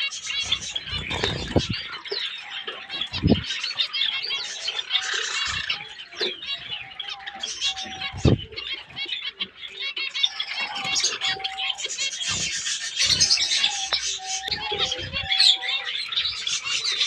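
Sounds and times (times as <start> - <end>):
finches chirping: 0.0 - 17.0
nasal beeping bird calls: 0.0 - 17.0.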